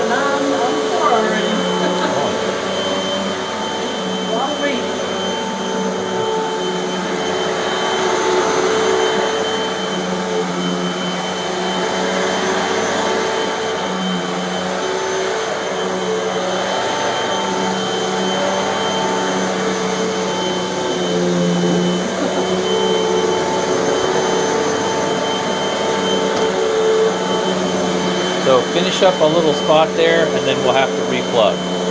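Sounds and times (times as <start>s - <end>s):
vacuum cleaner running on carpet: 0.0s - 31.9s.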